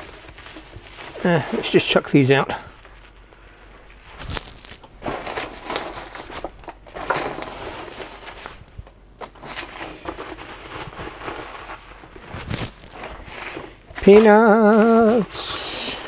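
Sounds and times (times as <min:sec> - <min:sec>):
rustling foam packing peanuts: 0:00.0 - 0:16.0.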